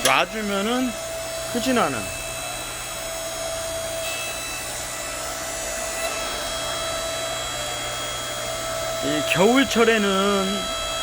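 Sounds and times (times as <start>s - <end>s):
log splitter motor humming: 0.0s - 11.0s.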